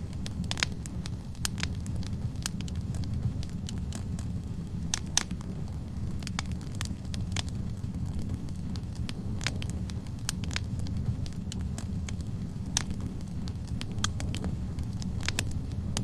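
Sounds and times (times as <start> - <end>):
logs crackling and popping: 0.0 - 16.0
wood fire rumbling: 0.0 - 16.0.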